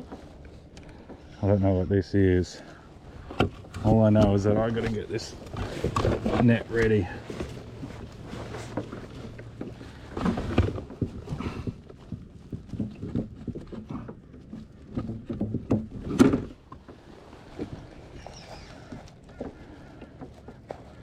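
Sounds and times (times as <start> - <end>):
fishing gear knocking against kayak: 3.2 - 21.0.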